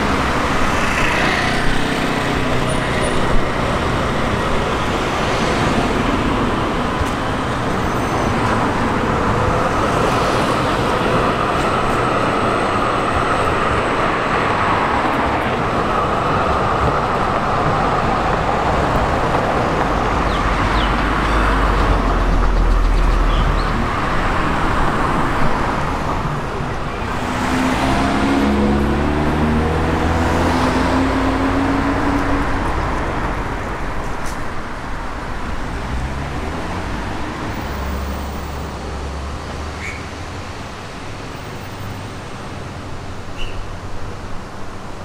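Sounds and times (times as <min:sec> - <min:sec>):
cars and trams passing: 0:00.0 - 0:45.0.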